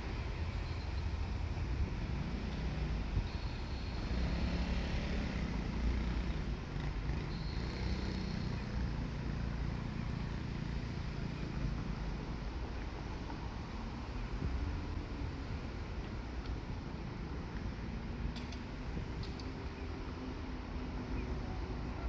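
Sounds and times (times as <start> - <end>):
diesel railcar engine rumbling: 0.0 - 22.0.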